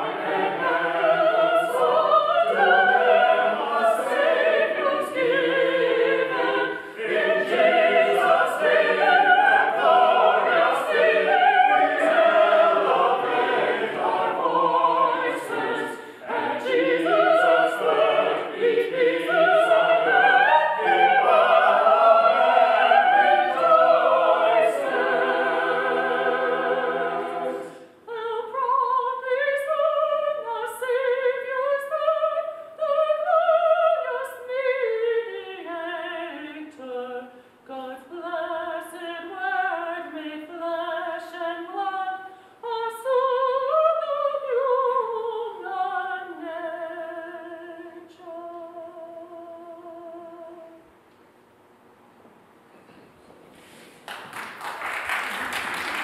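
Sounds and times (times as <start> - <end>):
choir singing a hymn: 0.0 - 50.8.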